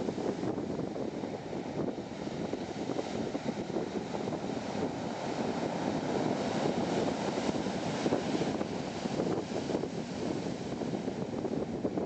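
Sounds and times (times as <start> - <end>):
waves breaking on cobble beach: 0.0 - 11.8.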